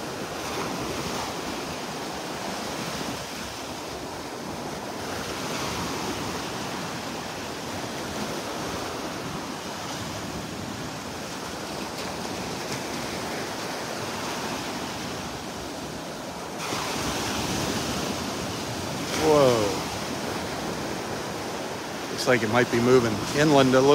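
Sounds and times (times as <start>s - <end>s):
surf washing onto beach: 0.0s - 23.9s.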